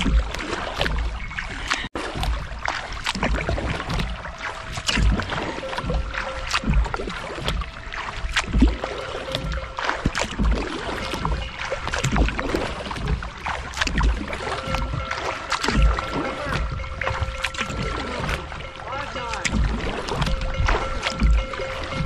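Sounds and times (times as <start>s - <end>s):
kayak paddle splashing water: 0.0s - 22.0s.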